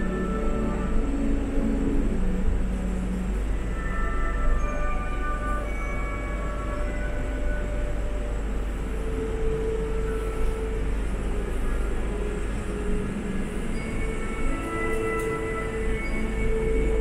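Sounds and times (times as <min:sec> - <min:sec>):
faint music with long notes: 0:00.0 - 0:17.0
mechanical rumble of descending cabin: 0:00.0 - 0:17.0.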